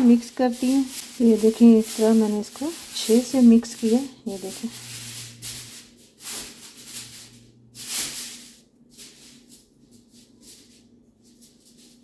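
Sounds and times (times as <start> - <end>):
hand rubbing flour mixture: 0.0 - 12.0.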